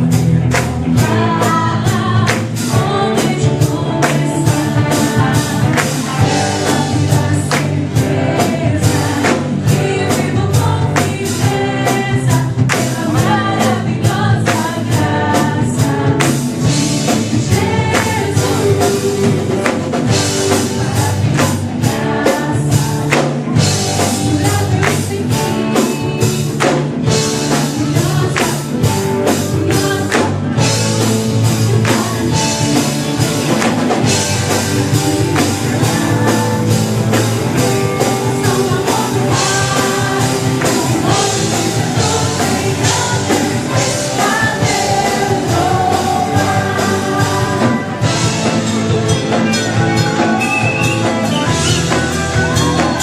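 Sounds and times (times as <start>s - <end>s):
drum beat: 0.0s - 53.0s
gospel band music: 0.0s - 53.0s
voices singing: 0.0s - 53.0s.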